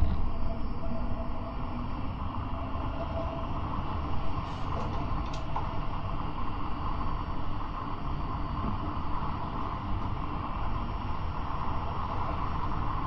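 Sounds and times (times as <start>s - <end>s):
tram rumbling along track: 0.0s - 13.0s.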